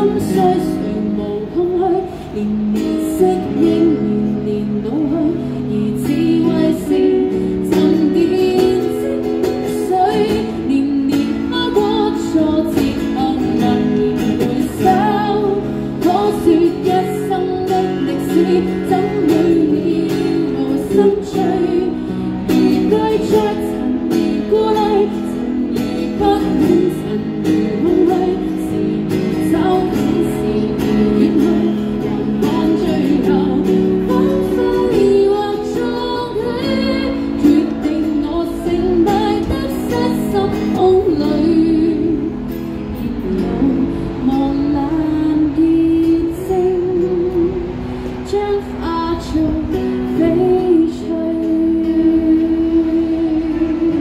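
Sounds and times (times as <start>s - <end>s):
strummed acoustic guitar: 0.0s - 54.0s
woman singing pop song: 0.0s - 54.0s.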